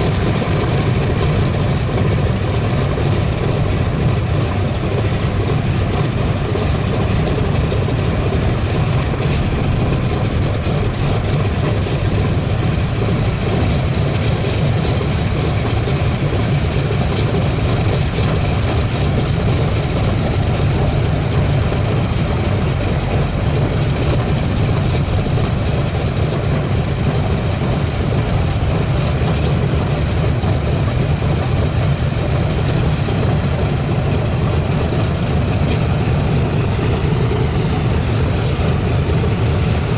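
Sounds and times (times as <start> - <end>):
radial aircraft engine rumbling: 0.0 - 39.9.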